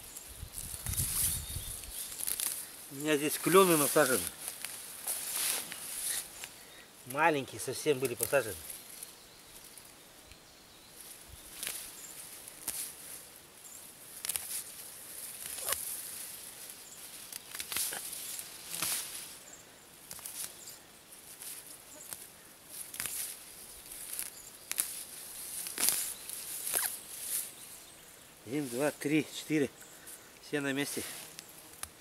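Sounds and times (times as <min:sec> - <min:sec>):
grass rustling: 0:00.0 - 0:32.0.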